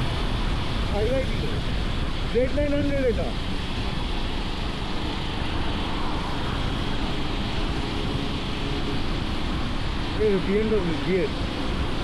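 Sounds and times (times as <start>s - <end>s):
motorcycle engine hum: 0.0s - 12.0s
wind and road noise: 0.0s - 12.0s.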